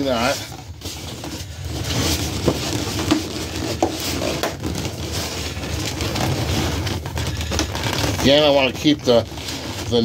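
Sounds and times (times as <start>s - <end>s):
balloons rubbing and squeaking: 0.0s - 10.0s.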